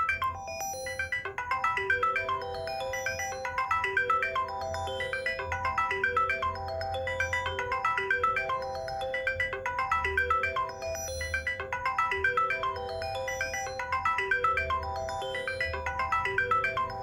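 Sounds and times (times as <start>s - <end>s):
phone ringtone: 0.0s - 17.0s.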